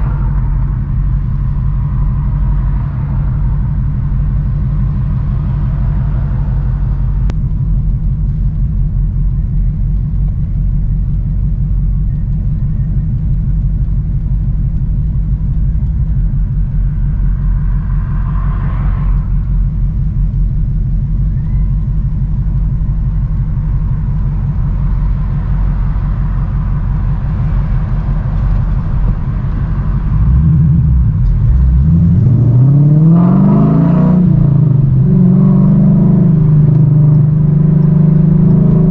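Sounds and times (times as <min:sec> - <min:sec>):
engine and exhaust rumbling: 0:00.0 - 0:38.9.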